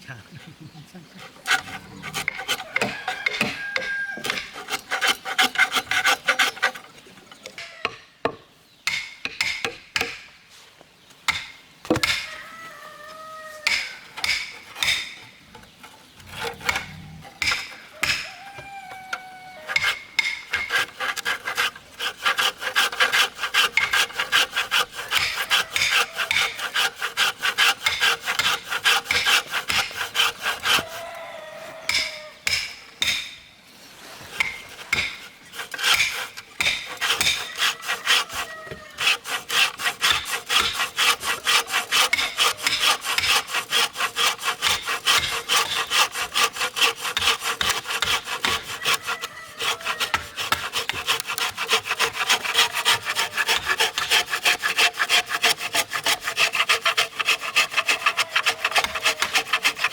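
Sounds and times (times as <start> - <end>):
hand saw cutting wood: 1.2 - 7.7, 13.6 - 33.4, 34.0 - 59.9.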